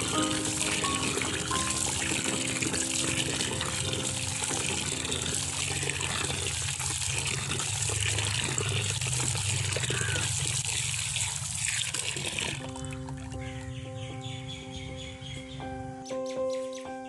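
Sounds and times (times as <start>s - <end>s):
tap water running into bucket: 0.0s - 13.8s.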